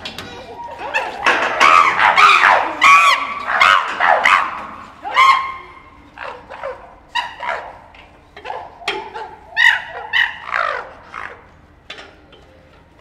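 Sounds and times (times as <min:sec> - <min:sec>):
chimpanzees screaming: 0:00.5 - 0:07.8, 0:08.4 - 0:11.6.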